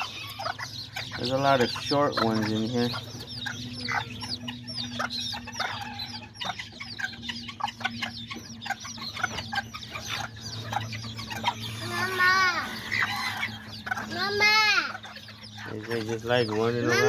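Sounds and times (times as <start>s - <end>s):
baby chicks peeping: 0.0s - 17.0s
hen clucking: 0.0s - 17.0s.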